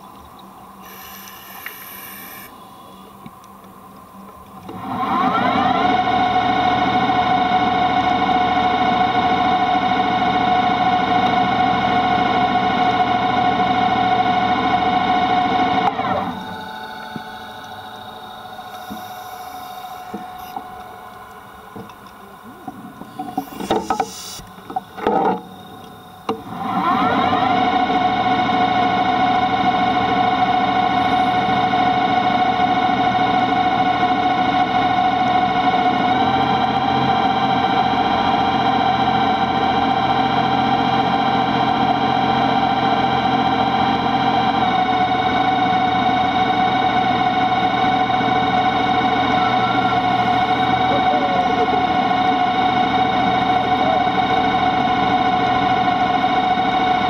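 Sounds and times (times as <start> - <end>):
faint steady hum: 0.0 - 5.1, 5.7 - 57.0
distorted droning chords: 4.7 - 57.0.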